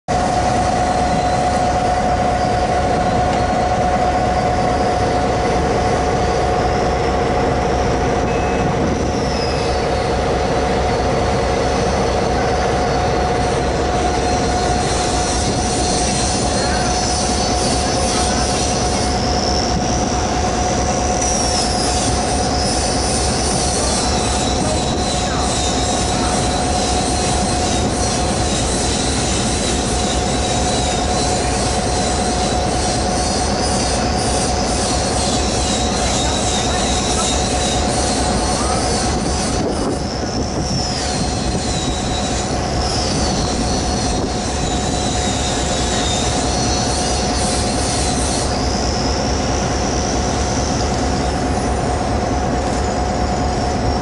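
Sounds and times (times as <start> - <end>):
trains rumbling through station: 0.0 - 54.0
high wheel squeal: 0.1 - 54.0.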